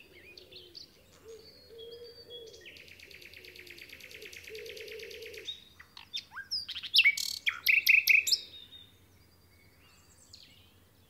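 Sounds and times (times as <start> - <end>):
nightingale singing: 0.0 - 11.0.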